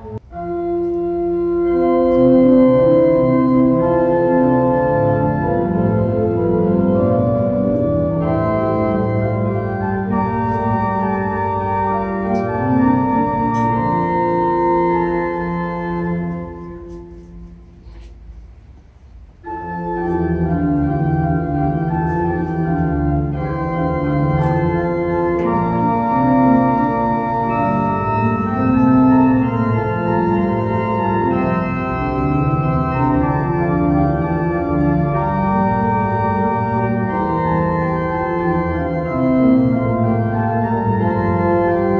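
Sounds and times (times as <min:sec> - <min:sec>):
organ playing sustained chords: 0:00.0 - 0:18.2, 0:19.3 - 0:41.9.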